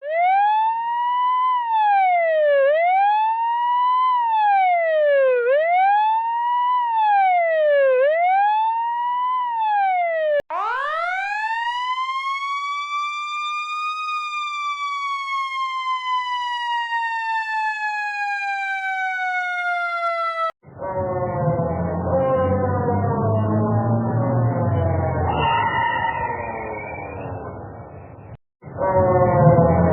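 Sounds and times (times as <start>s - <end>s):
emergency vehicle siren wailing: 0.0s - 29.9s
siren winding up and falling: 0.0s - 29.9s.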